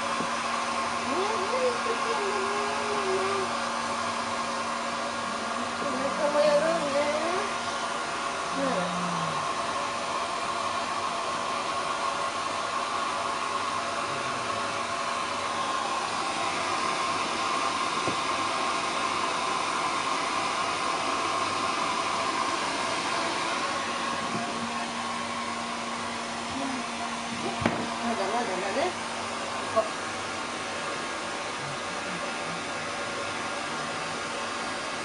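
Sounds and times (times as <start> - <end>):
hair dryer running: 0.0 - 35.0.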